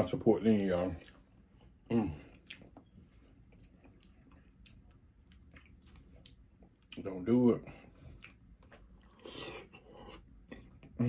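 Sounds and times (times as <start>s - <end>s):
wet chewing: 0.9s - 7.1s, 7.9s - 10.9s.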